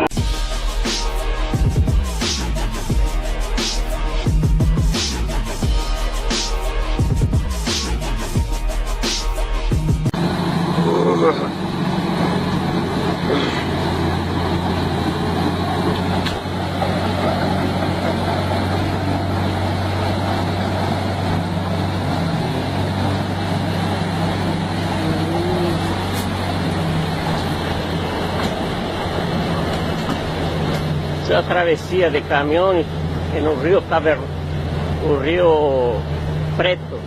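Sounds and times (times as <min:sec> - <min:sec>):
heavy vehicle engine droning: 0:00.0 - 0:37.0.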